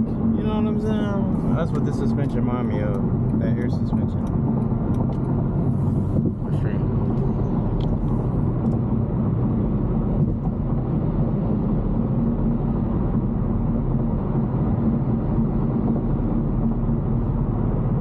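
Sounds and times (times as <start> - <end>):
car engine rumble: 0.0 - 18.0
road noise: 0.0 - 18.0.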